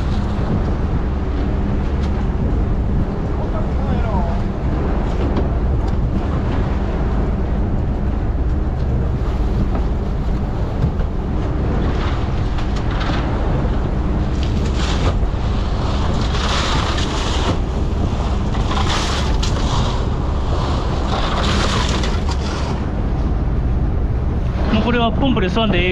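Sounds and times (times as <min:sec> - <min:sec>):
boat engine running: 0:00.0 - 0:25.9
waves and wind rushing: 0:00.0 - 0:25.9.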